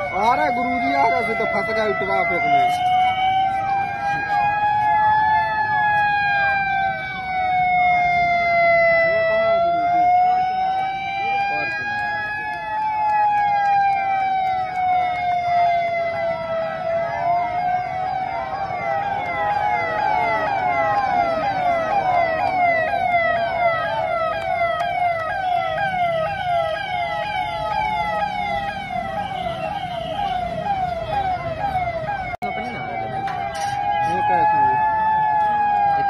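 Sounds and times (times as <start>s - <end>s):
fast sweeping siren: 0.0s - 36.0s
slow wailing siren: 0.0s - 36.0s.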